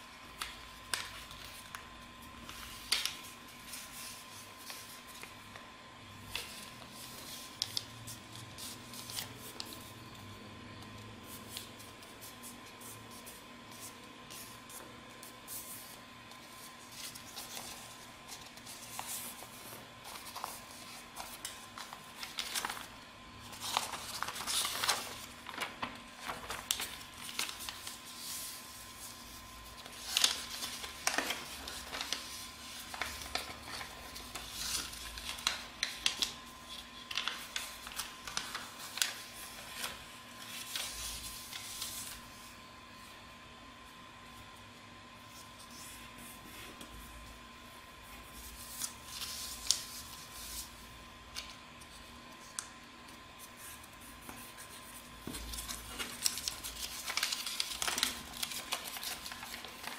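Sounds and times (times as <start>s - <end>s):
faint steady hum: 0.0s - 59.9s
paper rustling and crinkling: 0.2s - 9.9s, 11.2s - 42.5s, 48.2s - 59.9s.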